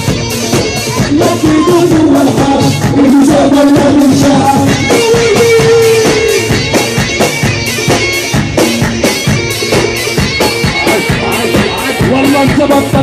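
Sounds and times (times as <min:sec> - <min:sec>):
drum kit beat: 0:00.0 - 0:13.0
electric guitar: 0:00.0 - 0:13.0.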